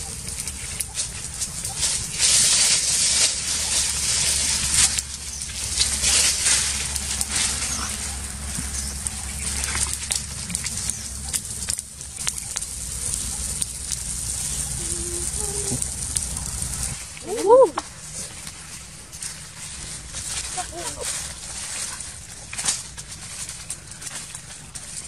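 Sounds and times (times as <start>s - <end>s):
dry leaves burning and crackling: 0.0s - 25.0s.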